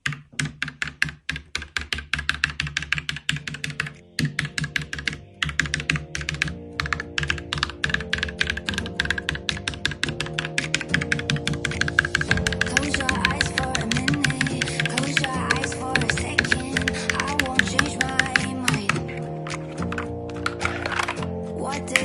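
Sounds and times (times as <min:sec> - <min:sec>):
mechanical keyboard typing: 0:00.0 - 0:22.0.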